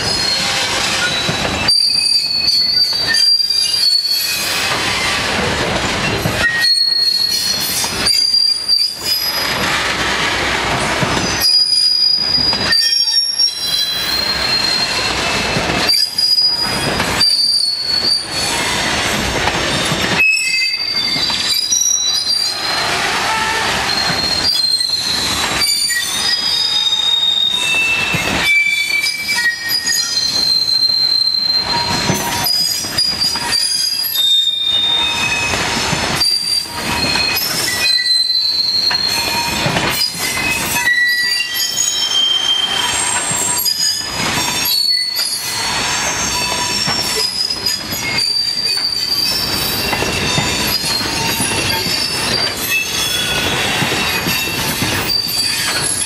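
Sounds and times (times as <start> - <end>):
train wheels rumbling and knocking: 0.0 - 56.0
wheel flanges squealing on rails: 0.0 - 56.0.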